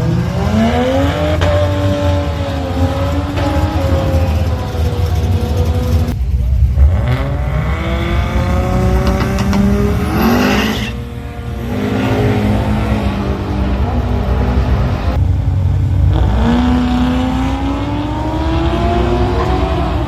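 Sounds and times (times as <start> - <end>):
drag racing car accelerating: 0.0 - 20.0.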